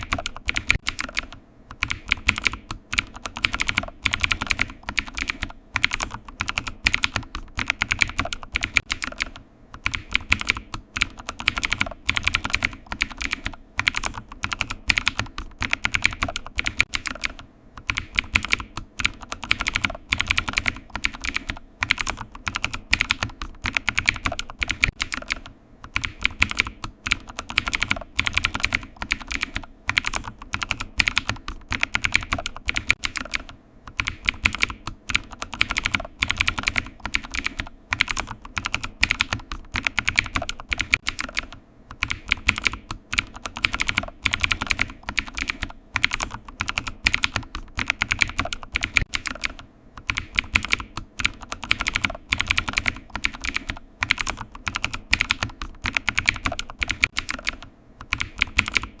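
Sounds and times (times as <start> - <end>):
computer keyboard typing: 0.0 - 59.0.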